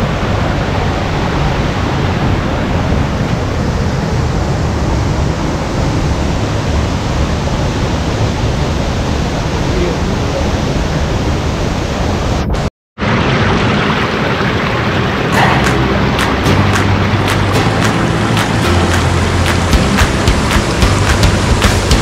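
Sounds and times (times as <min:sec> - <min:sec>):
waterfall rushing: 0:00.0 - 0:12.4, 0:13.0 - 0:22.0.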